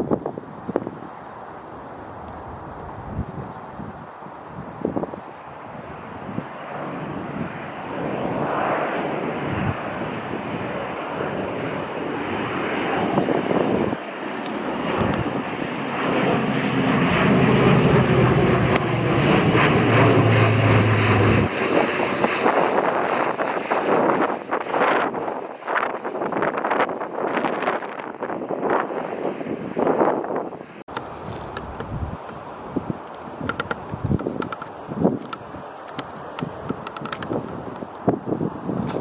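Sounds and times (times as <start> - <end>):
airliner engines passing: 0.0 - 39.0.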